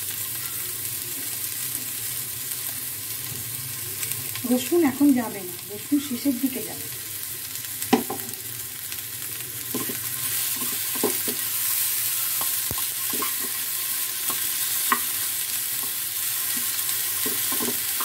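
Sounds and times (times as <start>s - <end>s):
potatoes sizzling in oil: 0.0s - 18.0s.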